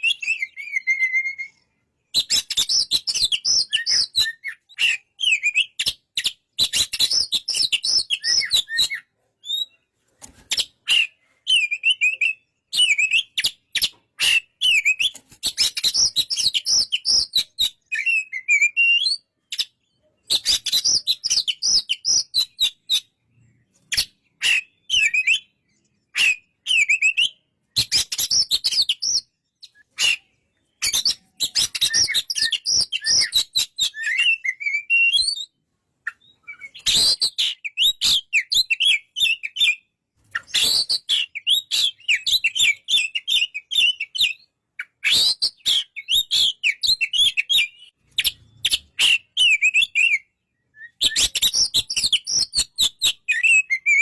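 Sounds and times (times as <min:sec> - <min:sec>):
bird singing chirps and whistles: 0:00.0 - 0:54.0.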